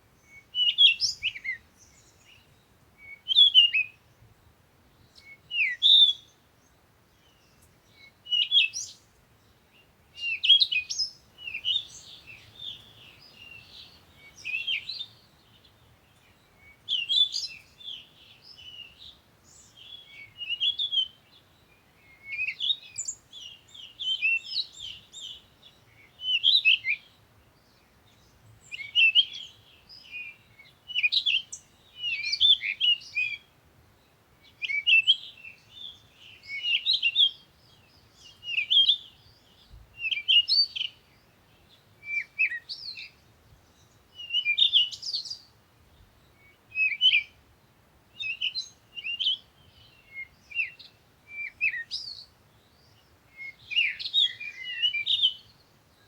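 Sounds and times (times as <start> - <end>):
songbirds twittering: 0.1 - 56.0.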